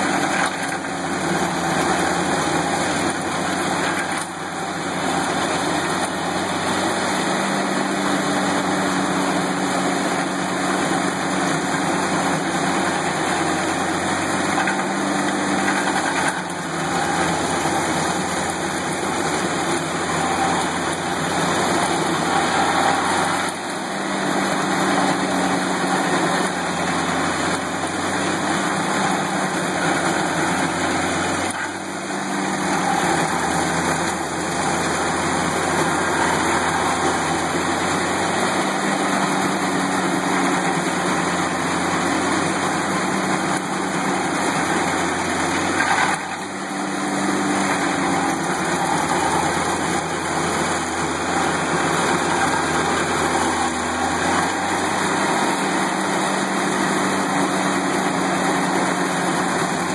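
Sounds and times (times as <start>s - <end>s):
cutter wheel grinding stump: 0.0s - 59.9s
stump grinder engine running: 0.0s - 59.9s.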